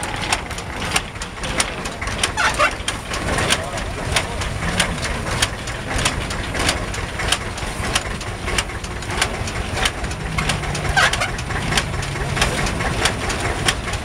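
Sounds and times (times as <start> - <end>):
farm machinery knocking: 0.0 - 14.0.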